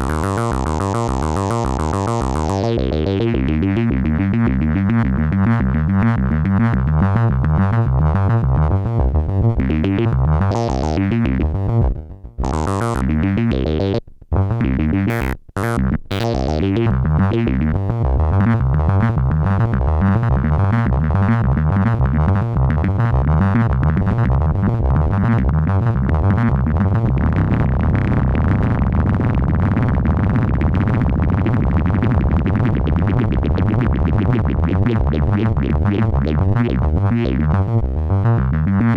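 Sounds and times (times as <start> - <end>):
synthesizer bass sequence: 0.0 - 38.9.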